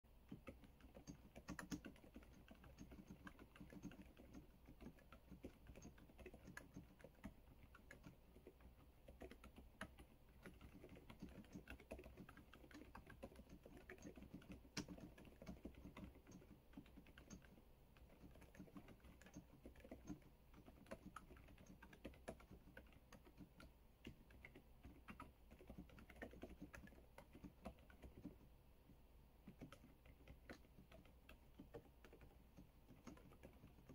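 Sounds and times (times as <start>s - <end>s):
mechanical keyboard typing: 0.2s - 33.9s.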